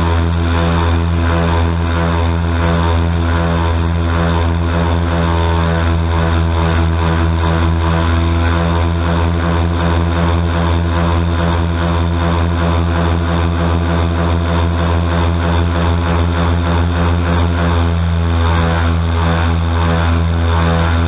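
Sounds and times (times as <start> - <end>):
airboat engine and propeller: 0.0 - 21.0.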